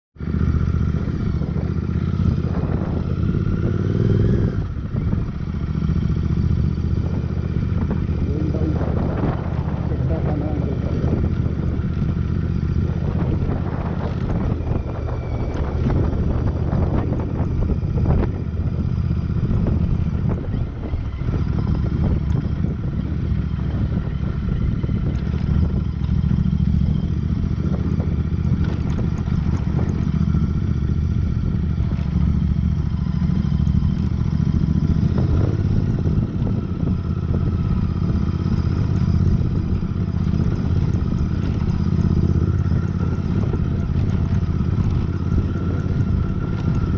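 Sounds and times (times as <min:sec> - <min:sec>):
motorcycle engine running: 0:00.2 - 0:46.9.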